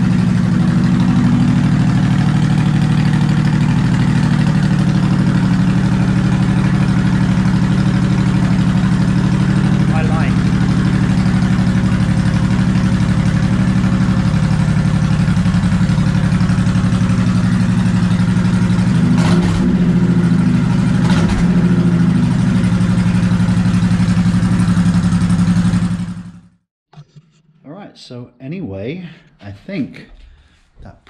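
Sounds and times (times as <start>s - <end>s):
engine revving: 0.0s - 26.5s
motorcycle engine idling: 0.0s - 26.6s.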